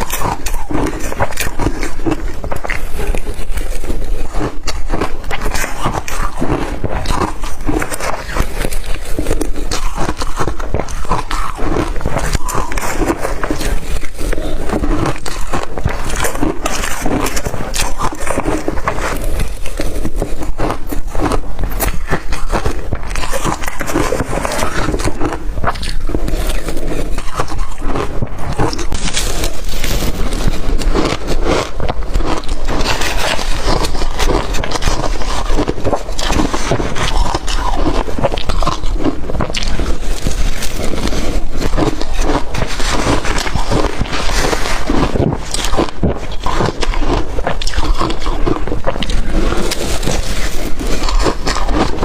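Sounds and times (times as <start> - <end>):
chewing crushed ice: 0.0 - 52.0.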